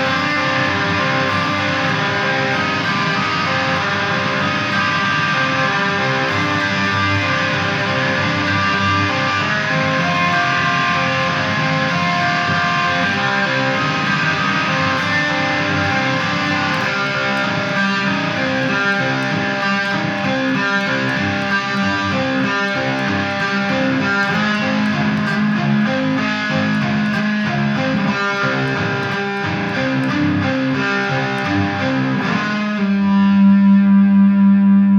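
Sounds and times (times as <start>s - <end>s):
guitar music: 0.0s - 34.9s.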